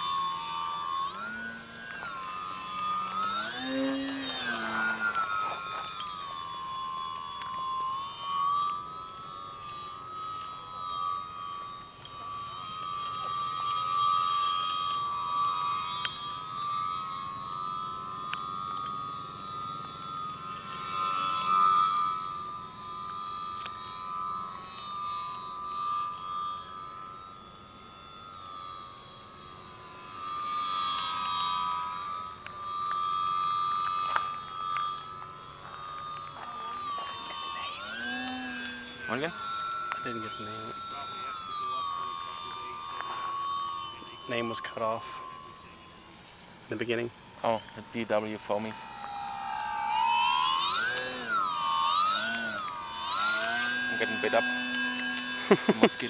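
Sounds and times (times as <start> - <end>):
rc plane motor whining: 0.0 - 56.0.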